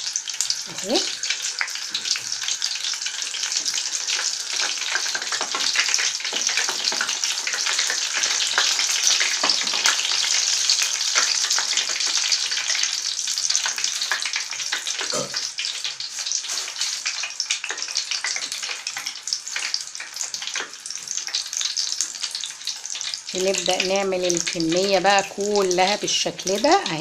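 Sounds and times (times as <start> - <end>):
shrimp deep-frying in oil: 0.0 - 27.0.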